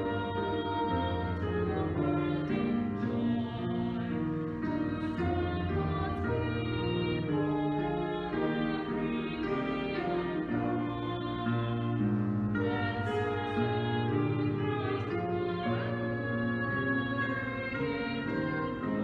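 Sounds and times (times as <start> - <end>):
hymn with held chords and melody: 0.0 - 19.0.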